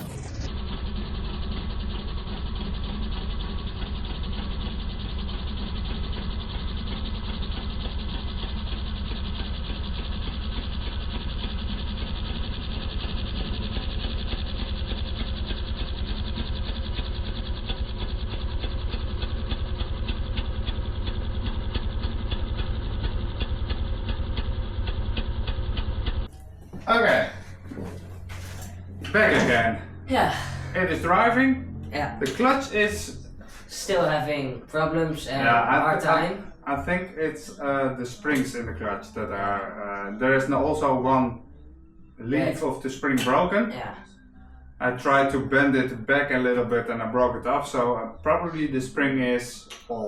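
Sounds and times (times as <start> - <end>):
moped engine buzzing: 0.0 - 50.0.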